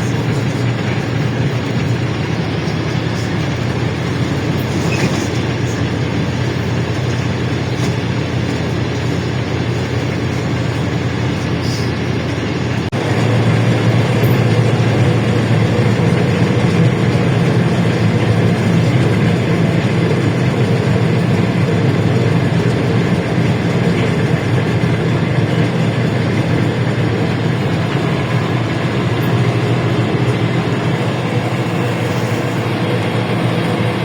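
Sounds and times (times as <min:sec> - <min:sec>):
bus engine running: 0:00.0 - 0:34.0
road and body noise: 0:00.0 - 0:34.0.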